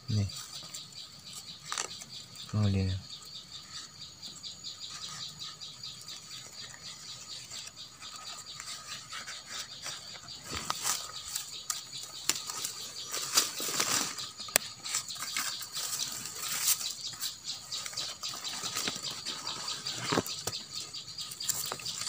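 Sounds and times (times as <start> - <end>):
bird scolding with high chirps: 0.1 - 22.0
leaves rustling and twigs clicking: 0.1 - 22.0.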